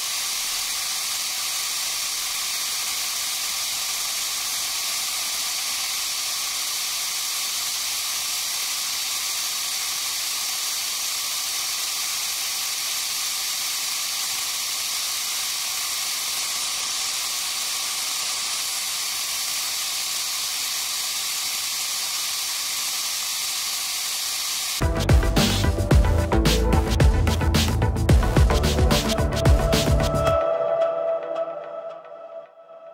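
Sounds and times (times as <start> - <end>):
coolant spraying hiss: 0.0 - 30.4.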